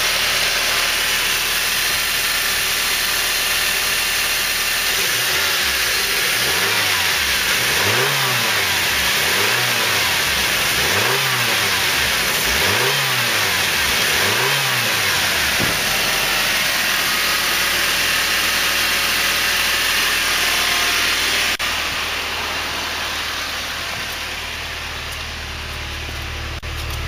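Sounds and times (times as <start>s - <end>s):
car engine revving: 3.2s - 26.2s.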